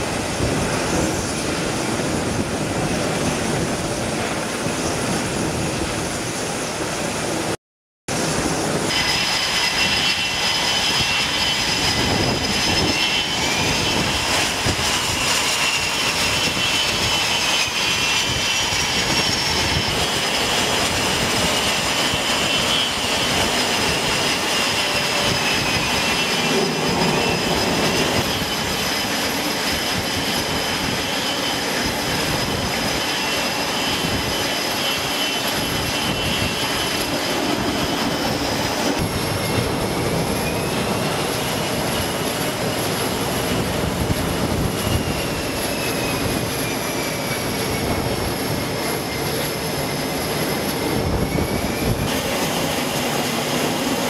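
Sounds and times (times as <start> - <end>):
jet engines running: 0.0 - 54.0
turbine whines: 0.0 - 54.0.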